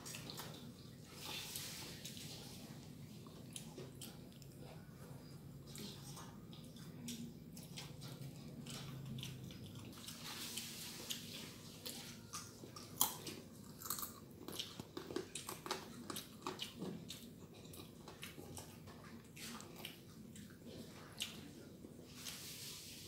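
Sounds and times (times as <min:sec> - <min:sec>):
children chewing food: 0:00.0 - 0:23.0.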